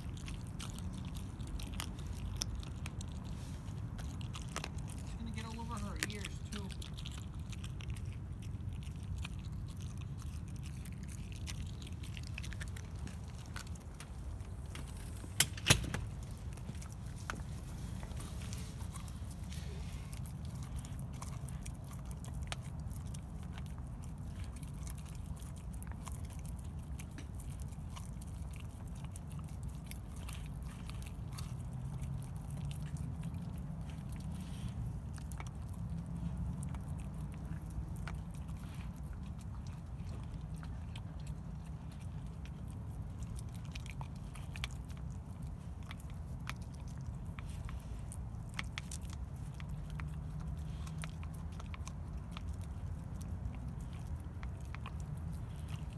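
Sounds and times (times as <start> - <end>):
dog chewing on meat and bone: 0.0 - 55.9.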